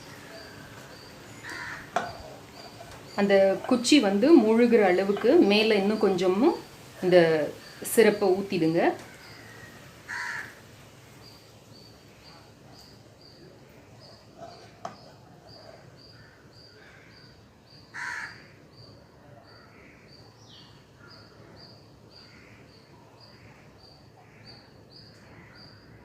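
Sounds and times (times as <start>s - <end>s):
insect ambience: 0.0s - 26.0s.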